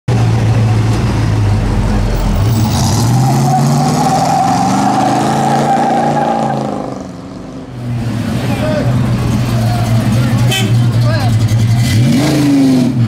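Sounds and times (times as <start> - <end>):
pickup truck engine revving: 0.2 - 13.0.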